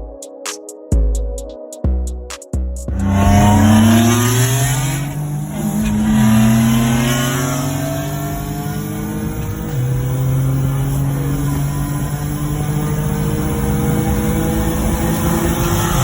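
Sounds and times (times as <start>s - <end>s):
car engine accelerating hard: 2.9s - 16.0s.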